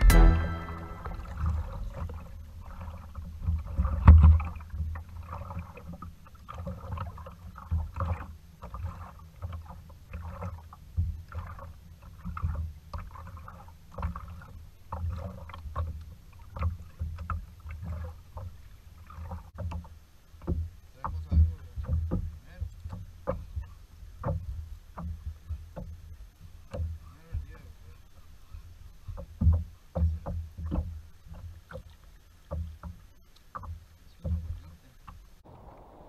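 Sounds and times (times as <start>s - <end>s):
water slapping against kayak hull: 1.2s - 35.9s.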